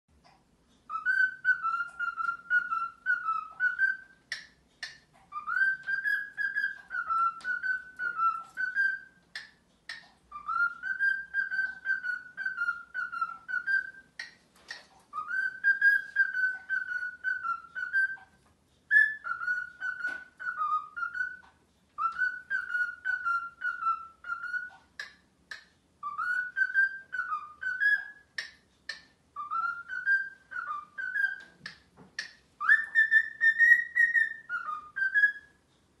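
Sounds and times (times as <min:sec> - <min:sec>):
cockatiel whistling song: 0:00.9 - 0:35.6.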